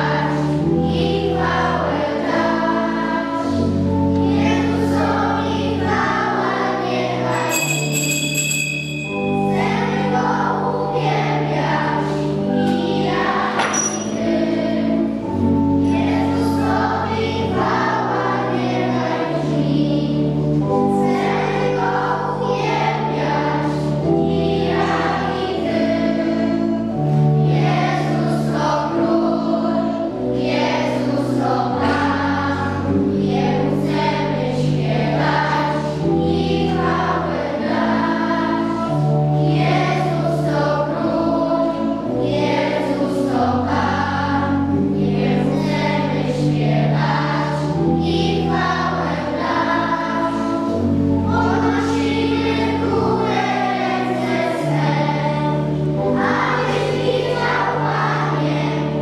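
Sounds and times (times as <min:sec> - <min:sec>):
children's choir singing: 0:00.0 - 0:59.0
instrumental accompaniment with bass: 0:00.0 - 0:59.0.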